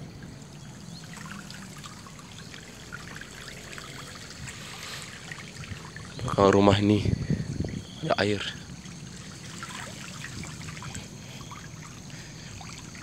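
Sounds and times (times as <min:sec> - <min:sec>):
flowing water: 0:00.0 - 0:13.0
small water splashes: 0:00.0 - 0:13.0.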